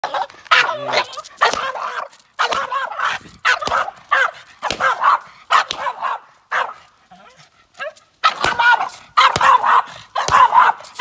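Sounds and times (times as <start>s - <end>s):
dog barking and yipping: 0.0s - 11.0s.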